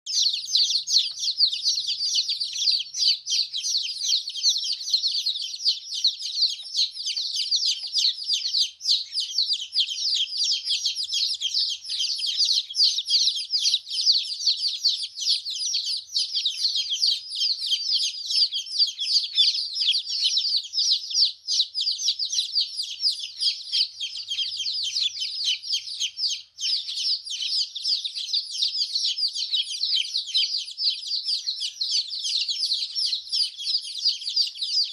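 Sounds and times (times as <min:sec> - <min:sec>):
baby chickens peeping: 0:00.1 - 0:34.9.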